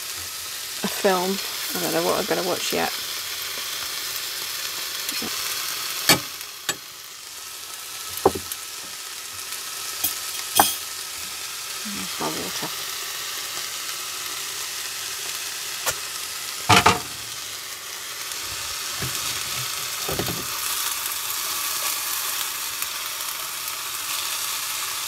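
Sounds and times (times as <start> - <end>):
stir fry sizzling in a pan: 0.0 - 25.0.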